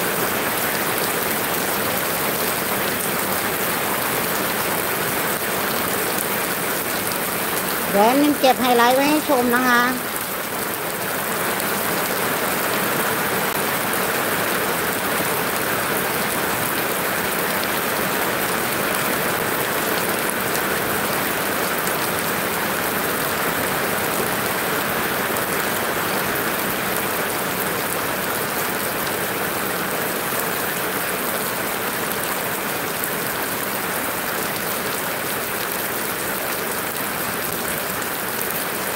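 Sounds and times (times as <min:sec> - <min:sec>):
heavy rain on metal roofs: 0:00.0 - 0:38.9.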